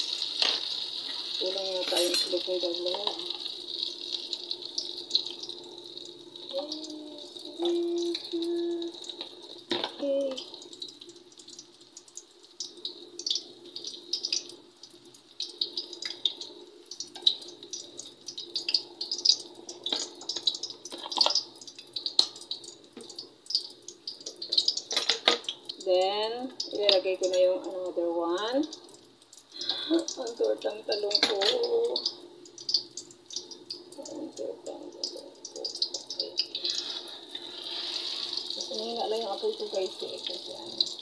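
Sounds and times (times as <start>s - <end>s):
food frying in oil: 0.0s - 41.0s.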